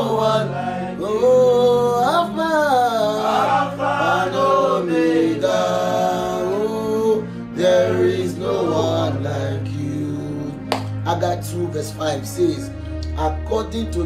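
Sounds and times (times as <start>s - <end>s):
man singing: 0.0s - 11.5s
soft instrumental backing: 0.0s - 14.0s.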